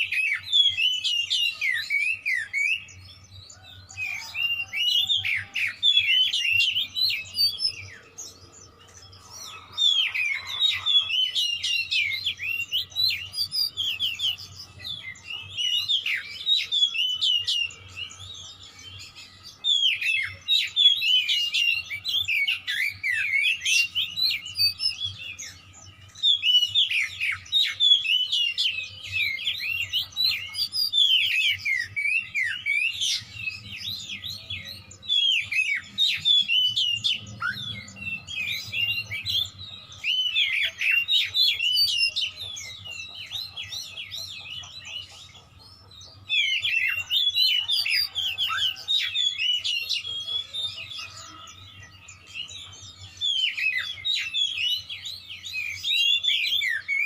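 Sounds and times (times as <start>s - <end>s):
songbird chirping and whistling: 0.0s - 57.0s.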